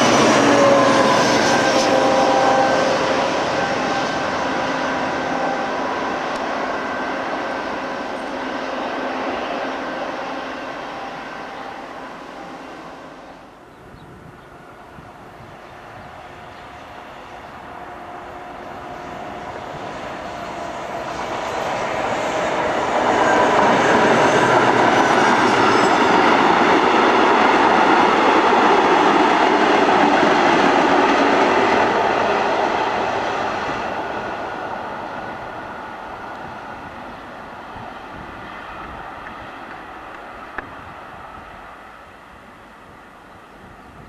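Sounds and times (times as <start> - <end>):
diesel train passing: 0.0 - 44.0.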